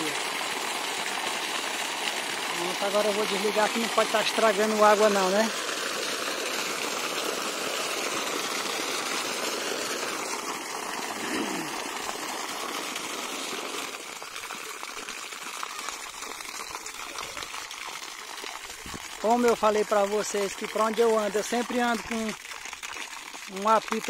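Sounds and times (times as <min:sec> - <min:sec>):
water splashing onto ground: 0:00.0 - 0:24.0.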